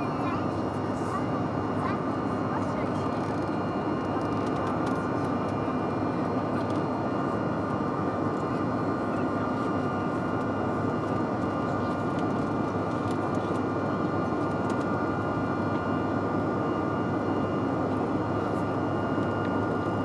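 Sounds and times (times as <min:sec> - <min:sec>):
high engine whine: 0:00.0 - 0:20.0
jet engine cabin drone: 0:00.0 - 0:20.0.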